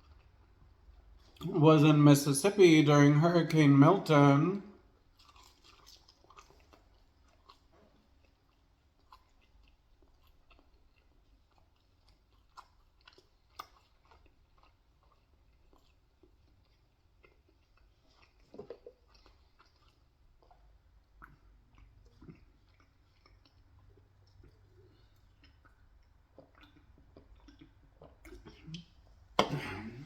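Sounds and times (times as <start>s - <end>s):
faint chewing with mouth clicks: 0.0s - 2.0s, 4.1s - 29.6s.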